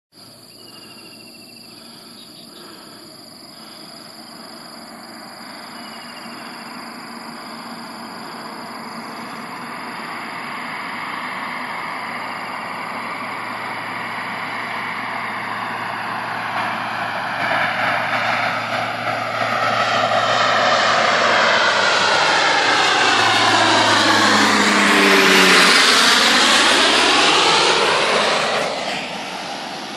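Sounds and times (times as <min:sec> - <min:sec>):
turboprop plane drone: 0:00.1 - 0:29.9.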